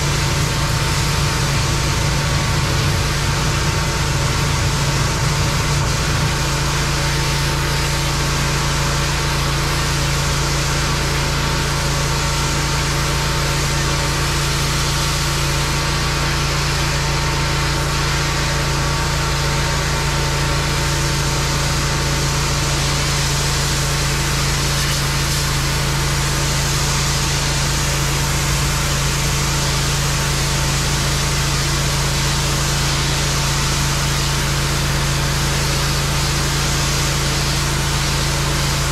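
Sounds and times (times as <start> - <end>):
pressure washer engine humming: 0.0 - 38.9.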